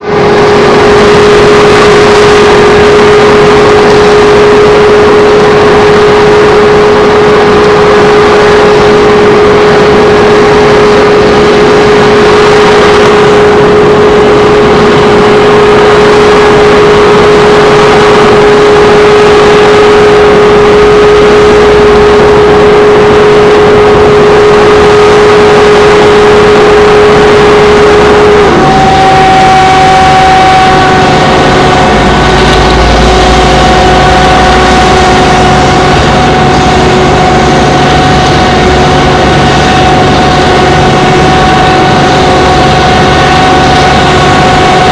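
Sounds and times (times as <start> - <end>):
concrete plant machinery din: 0.0 - 44.9
steady machine whine: 0.0 - 44.9.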